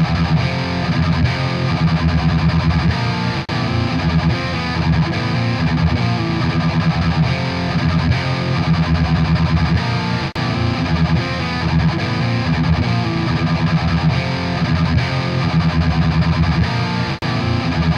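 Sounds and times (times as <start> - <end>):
rock music with electric guitar: 0.0 - 17.9.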